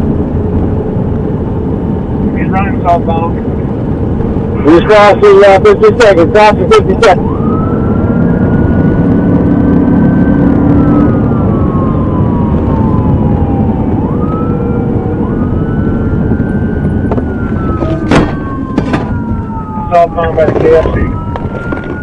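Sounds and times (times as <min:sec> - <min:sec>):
vehicle rumbling in motion: 0:00.0 - 0:22.0
police siren wailing: 0:00.1 - 0:22.0.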